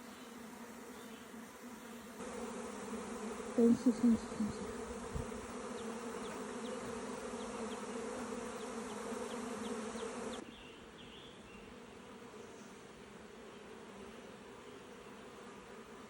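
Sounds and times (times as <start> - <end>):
swarm of bees humming: 0.0 - 16.0.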